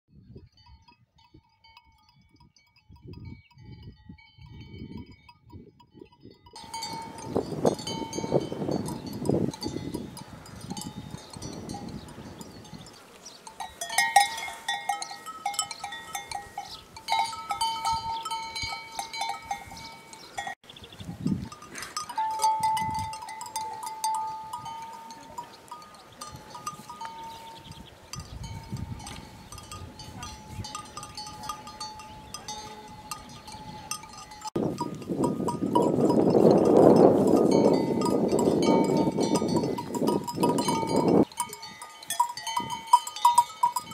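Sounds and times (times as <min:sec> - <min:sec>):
cattle bells clanking: 0:00.5 - 0:20.7, 0:21.3 - 0:43.9.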